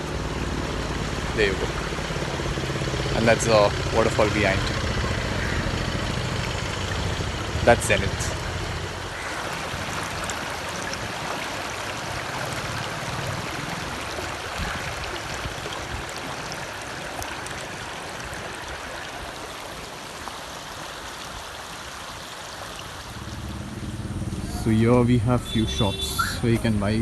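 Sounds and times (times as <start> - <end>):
rushing stream water: 0.0 - 27.0.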